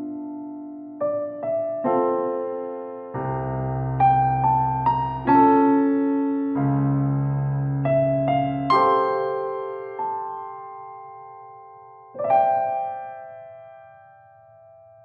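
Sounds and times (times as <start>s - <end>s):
deep piano bass notes: 0.0s - 15.0s
slow piano melody: 0.0s - 15.0s.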